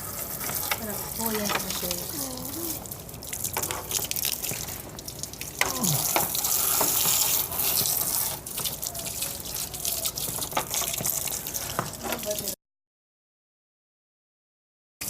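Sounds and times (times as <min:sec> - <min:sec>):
water splashing on grille: 0:00.0 - 0:12.6.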